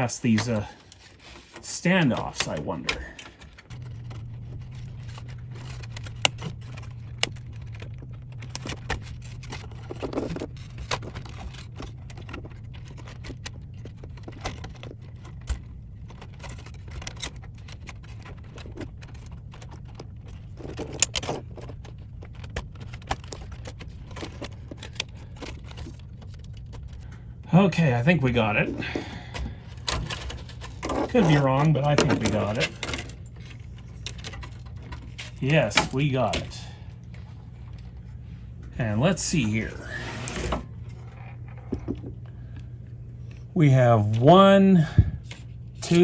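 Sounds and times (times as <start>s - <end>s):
clicks taps and light rattles: 0.0s - 27.4s, 28.6s - 38.8s, 40.7s - 43.5s
steady low hum: 0.0s - 46.0s.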